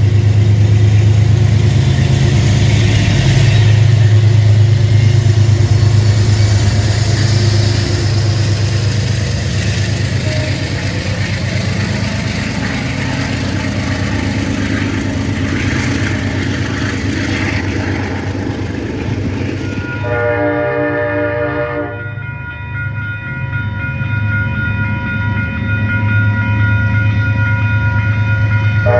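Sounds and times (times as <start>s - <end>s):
diesel locomotive engine humming: 0.0s - 28.9s.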